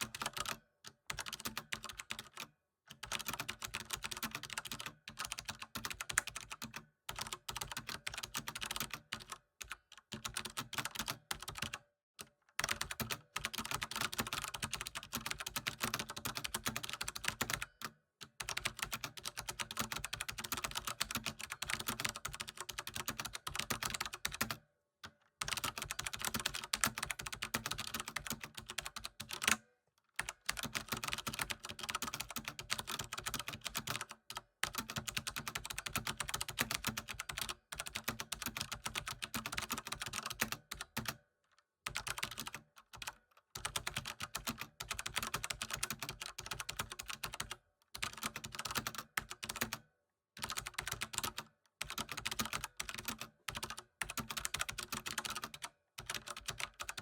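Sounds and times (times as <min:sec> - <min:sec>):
typing on a computer keyboard: 0:00.0 - 0:57.0.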